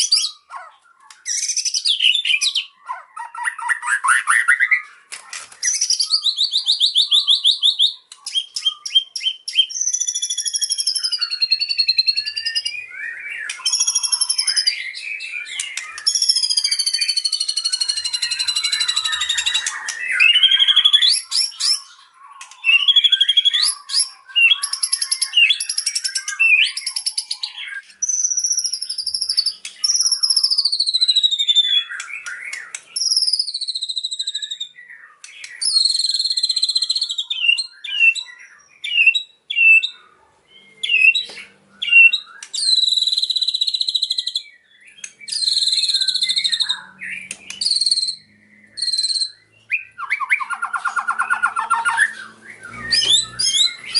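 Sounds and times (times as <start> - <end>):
bird singing whistled phrases: 0.0 - 5.0, 5.6 - 40.0, 40.6 - 53.9.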